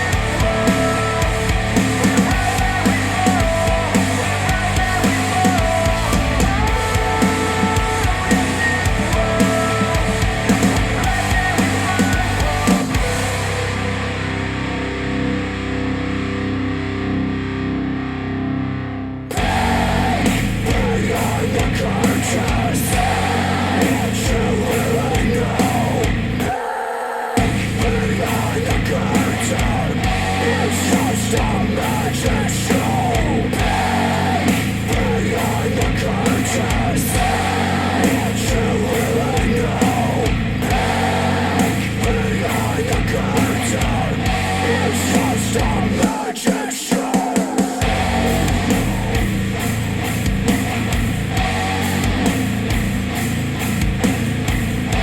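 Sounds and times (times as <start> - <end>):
heavy rock music over speakers: 0.0 - 26.7, 27.3 - 55.0.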